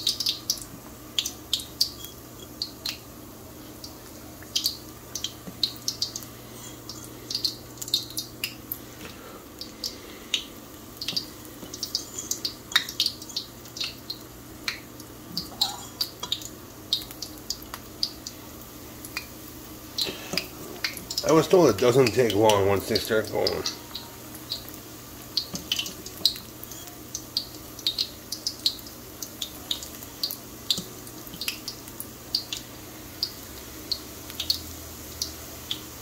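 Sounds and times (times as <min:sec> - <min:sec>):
oil crackling and popping: 0:00.0 - 0:36.0.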